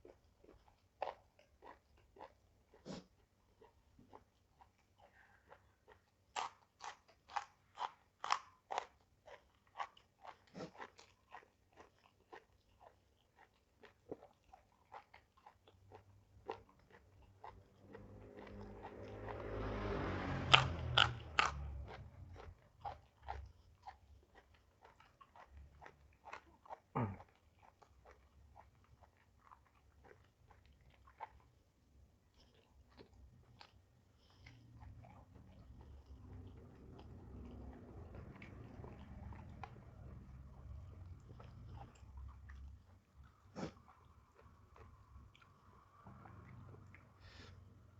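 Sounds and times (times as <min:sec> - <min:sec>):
crunchy food being chewed: 0:00.0 - 0:47.9.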